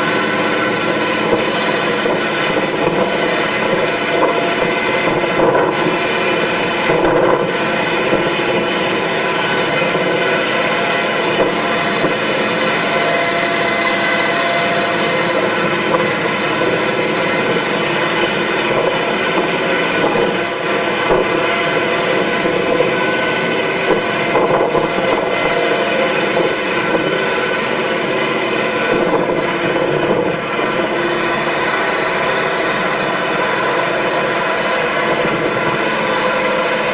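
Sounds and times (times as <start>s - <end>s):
farm machinery engine humming: 0.0s - 36.9s.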